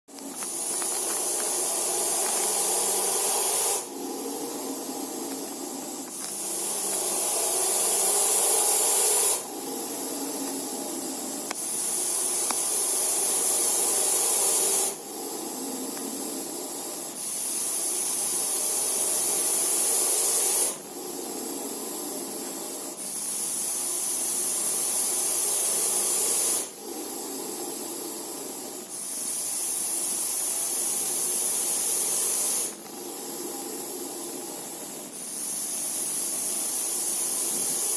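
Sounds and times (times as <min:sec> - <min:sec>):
snake hissing: 0:00.1 - 0:37.9.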